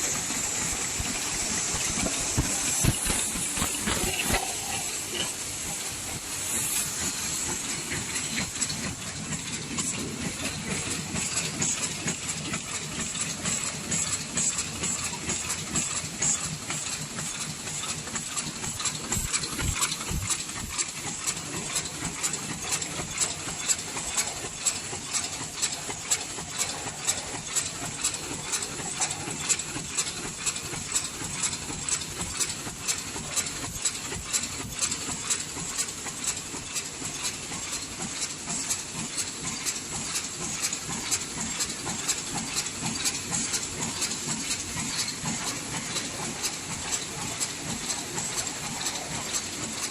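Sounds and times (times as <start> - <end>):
machine clacking: 0.0 - 49.9.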